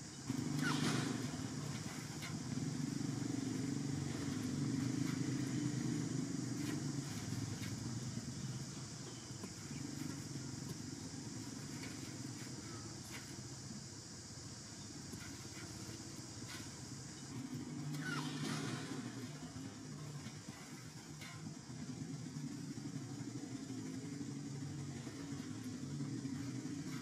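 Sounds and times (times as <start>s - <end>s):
low engine rumble: 0.0s - 27.0s.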